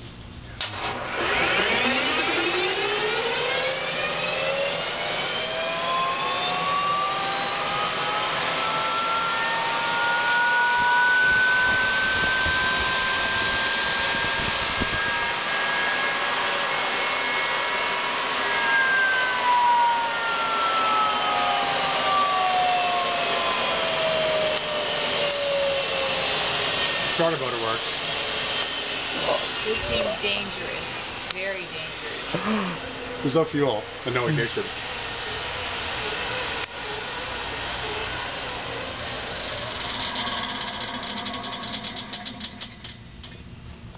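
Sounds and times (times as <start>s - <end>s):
jet engine starter whine: 0.0s - 43.9s.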